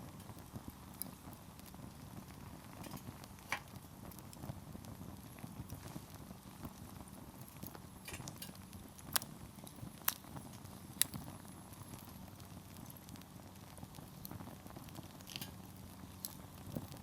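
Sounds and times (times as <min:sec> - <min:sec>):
campfire flames rustling: 0:00.0 - 0:17.0
firewood crackling and popping: 0:00.0 - 0:17.0.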